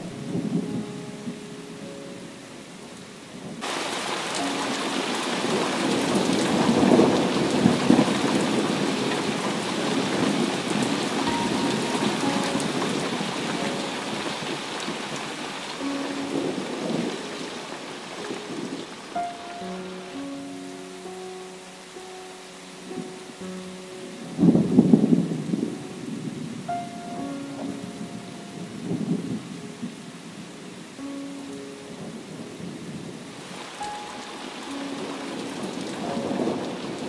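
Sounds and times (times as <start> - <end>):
thunder rumbling: 0.0 - 1.9, 3.3 - 20.8, 22.9 - 31.0, 31.8 - 37.0
rain falling on wet ground: 0.0 - 37.0.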